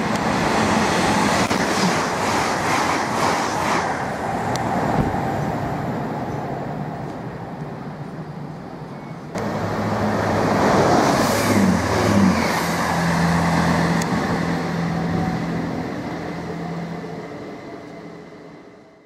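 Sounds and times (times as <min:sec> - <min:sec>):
train wheels on rails: 0:00.0 - 0:08.2, 0:09.2 - 0:18.1
diesel train engine drone: 0:00.0 - 0:19.0.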